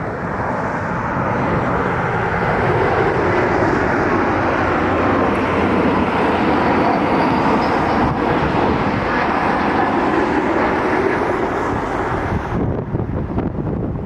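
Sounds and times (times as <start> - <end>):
jet airliner engines passing: 0.0 - 14.0
wind buffeting microphone: 0.0 - 14.0.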